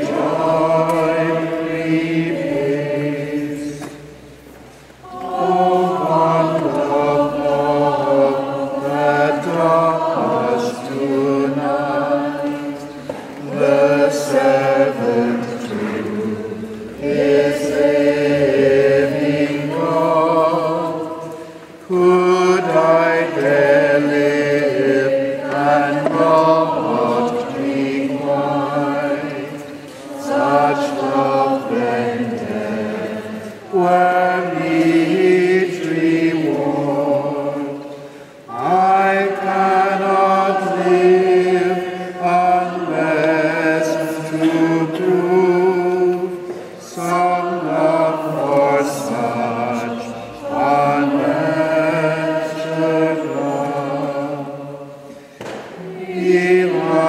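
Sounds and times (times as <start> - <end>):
voices singing slow chant: 0.0 - 57.0.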